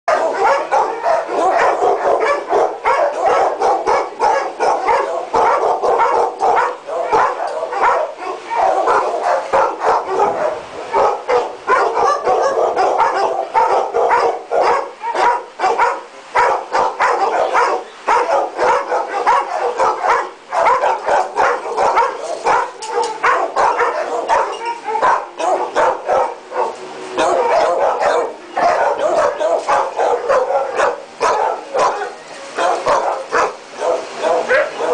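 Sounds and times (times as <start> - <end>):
dogs barking: 0.1 - 34.9.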